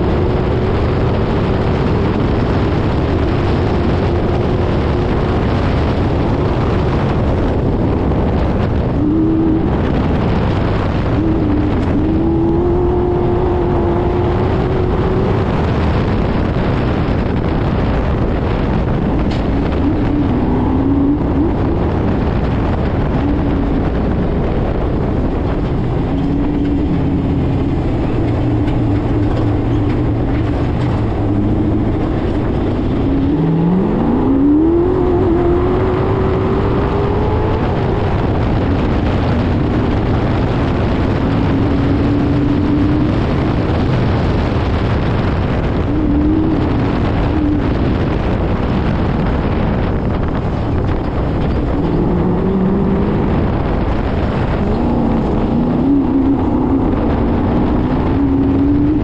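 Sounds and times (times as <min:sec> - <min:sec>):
race car engine revving: 0:00.0 - 0:59.0
wind and track noise: 0:00.0 - 0:59.0.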